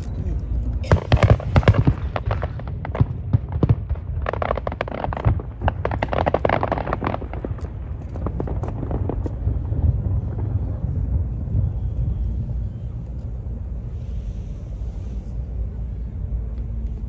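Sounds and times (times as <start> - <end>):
fireworks bursts and crackles: 0.0 - 13.8
low rumble: 0.0 - 17.0.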